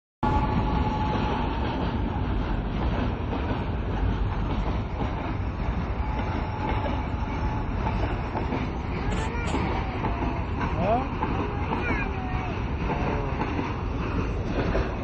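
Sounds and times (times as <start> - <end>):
train rumbling past: 0.2 - 15.0.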